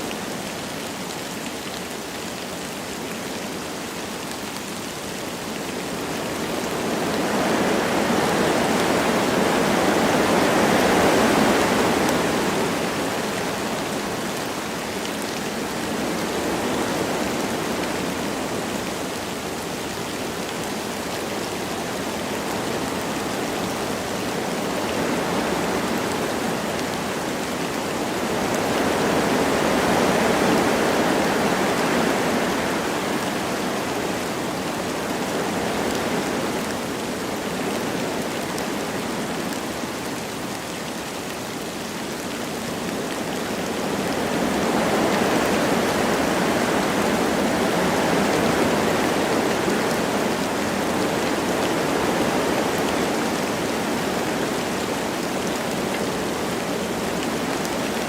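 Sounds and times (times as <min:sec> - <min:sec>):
light rain: 0:00.0 - 0:58.0
wind through trees: 0:00.0 - 0:58.0.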